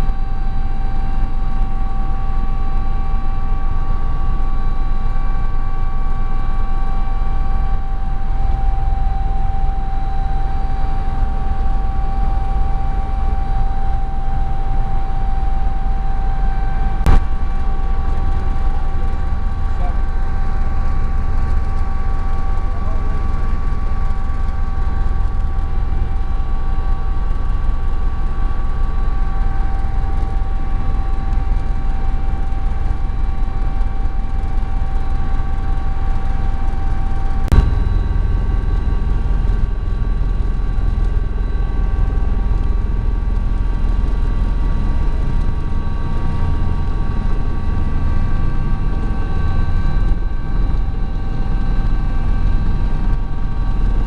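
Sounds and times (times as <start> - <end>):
helicopter drone and whine: 0.0 - 54.0.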